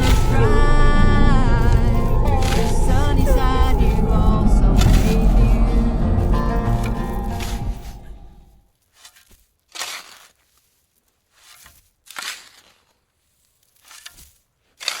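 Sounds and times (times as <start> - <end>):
crunching scrapes: 0.0 - 15.0.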